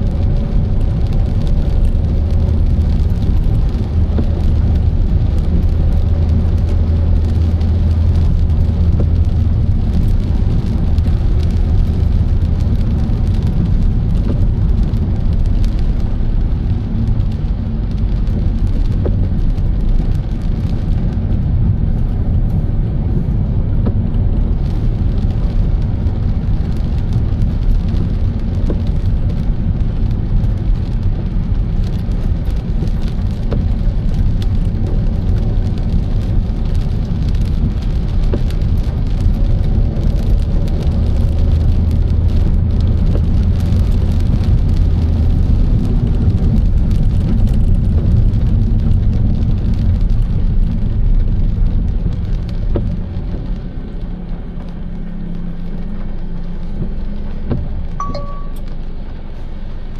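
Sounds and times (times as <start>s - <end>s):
car road and engine drone: 0.0s - 59.9s.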